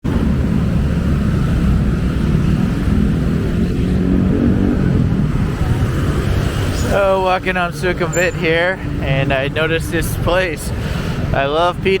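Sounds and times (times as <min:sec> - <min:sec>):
car and motorcycle engines passing: 0:00.0 - 0:12.0.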